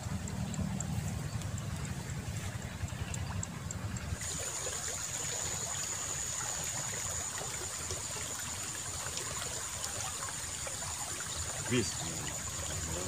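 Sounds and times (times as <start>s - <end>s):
water flowing and trickling: 0.0s - 13.0s.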